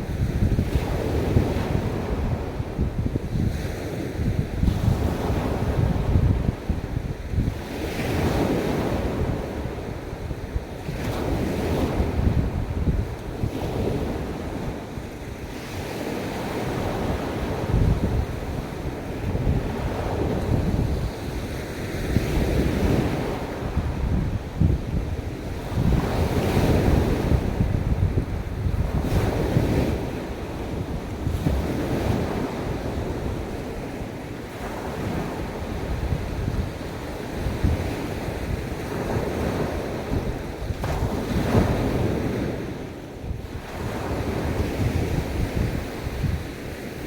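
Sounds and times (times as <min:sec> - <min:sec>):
sea waves washing onto beach: 0:00.0 - 0:47.0
wind buffeting microphone: 0:00.0 - 0:47.0.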